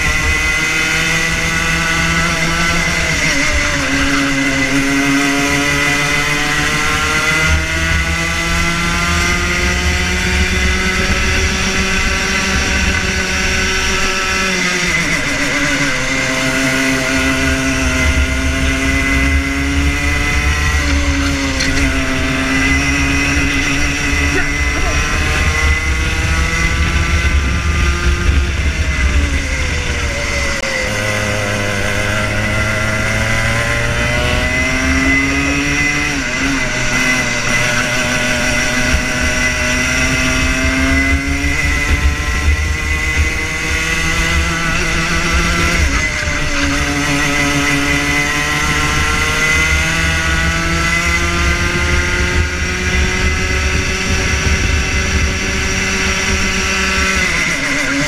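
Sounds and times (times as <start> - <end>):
two-stroke kart engine revving: 0.0 - 58.0.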